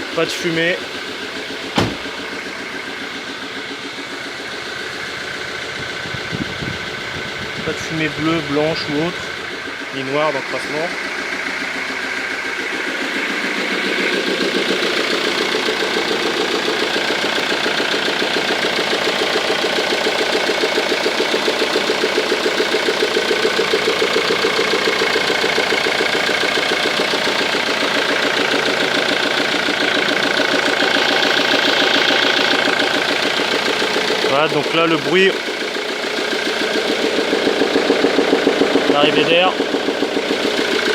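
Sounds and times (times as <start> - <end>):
diesel engine idling with clacking: 0.0 - 40.9.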